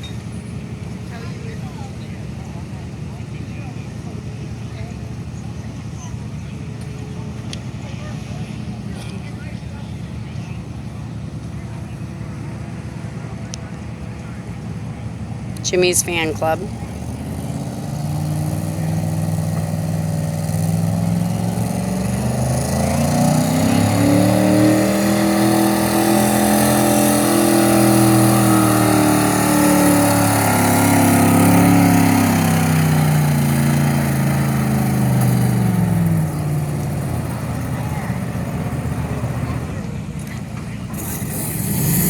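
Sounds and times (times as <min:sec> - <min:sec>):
truck engine at full throttle: 0:00.0 - 0:42.0.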